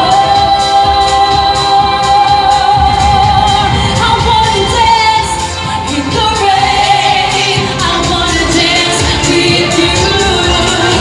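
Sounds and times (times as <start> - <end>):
pop dance song with singing: 0.0 - 11.0.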